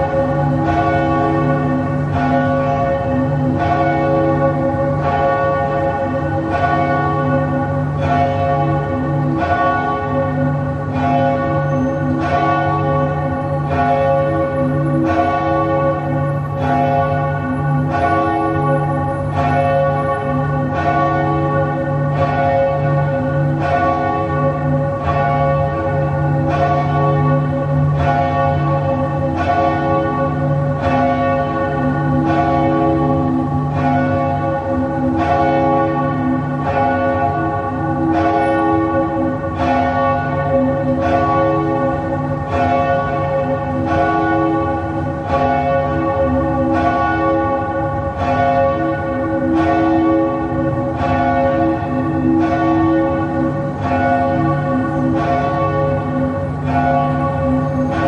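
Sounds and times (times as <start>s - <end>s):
church bells tolling: 0.0s - 58.0s.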